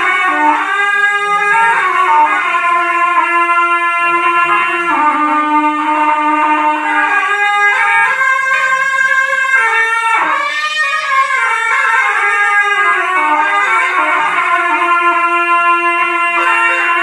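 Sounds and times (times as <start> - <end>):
shawms playing a tune: 0.0 - 17.0.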